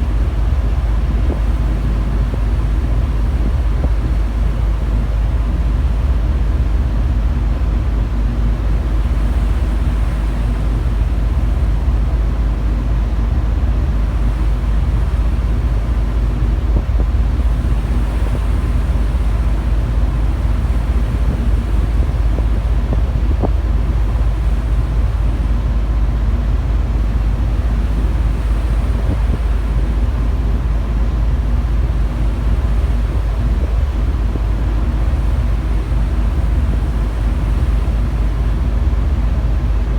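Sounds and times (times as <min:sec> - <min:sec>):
ship engines rumbling: 0:00.0 - 0:39.9
wind buffeting microphone: 0:00.0 - 0:39.9.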